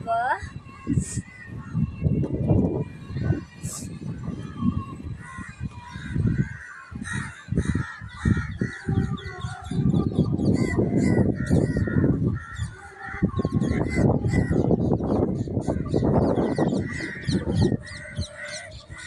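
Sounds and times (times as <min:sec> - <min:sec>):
birds honking and calling: 0:00.0 - 0:19.0.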